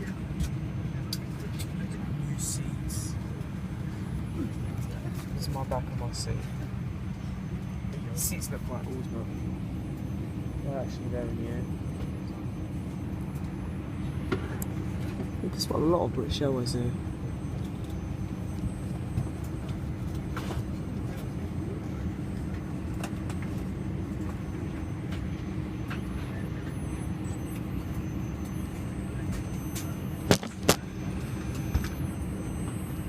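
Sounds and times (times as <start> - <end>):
aircraft cabin hum: 0.0 - 33.0.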